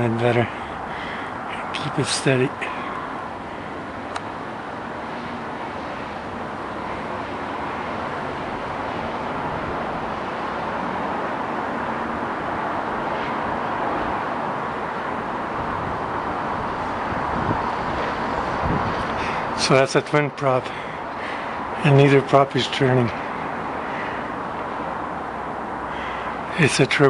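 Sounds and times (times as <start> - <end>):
outdoor rushing noise: 0.0 - 27.0.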